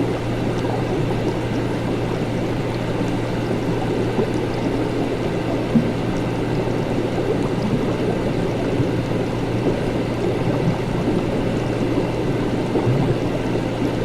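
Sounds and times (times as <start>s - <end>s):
constant low hum: 0.0s - 14.0s
liquid bubbling and gurgling: 0.0s - 14.0s.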